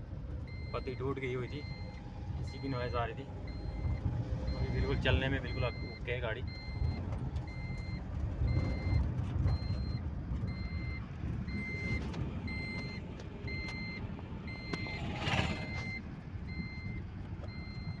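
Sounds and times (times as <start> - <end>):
diesel engine rumbling: 0.0 - 18.0
reversing alarm beeping: 0.5 - 18.0.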